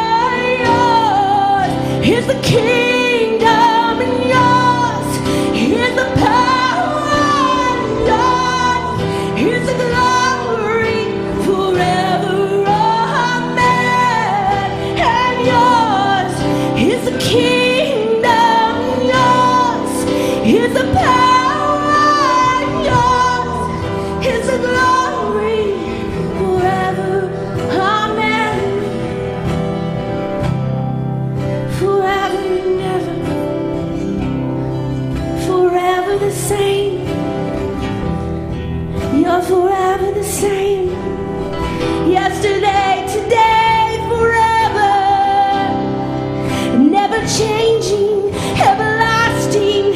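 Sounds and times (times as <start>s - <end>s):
woman singing with vibrato: 0.0s - 49.9s.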